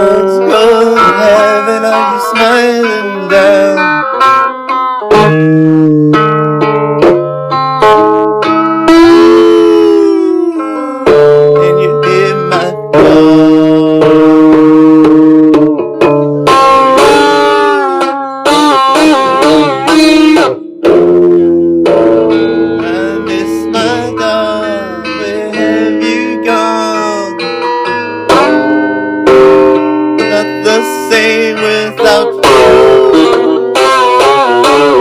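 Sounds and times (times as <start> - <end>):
guitar with bending notes: 0.0 - 35.0.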